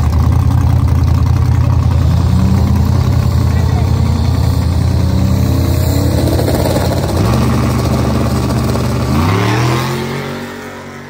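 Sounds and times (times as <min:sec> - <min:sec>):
race car engine revving through gears: 0:01.6 - 0:11.0.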